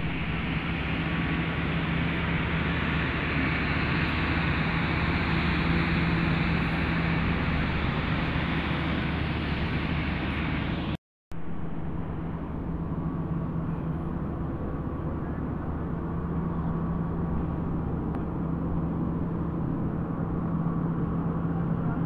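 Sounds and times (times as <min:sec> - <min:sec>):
machine humming and hissing: 0:00.0 - 0:22.0.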